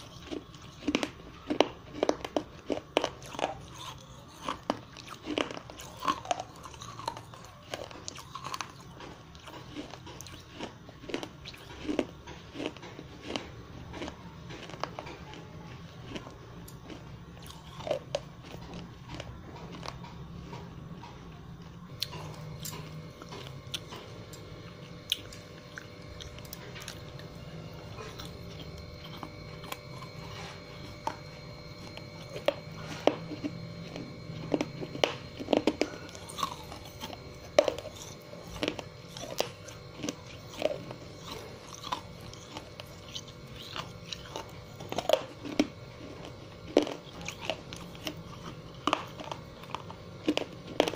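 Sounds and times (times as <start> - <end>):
crunchy chewing: 0.0 - 50.9.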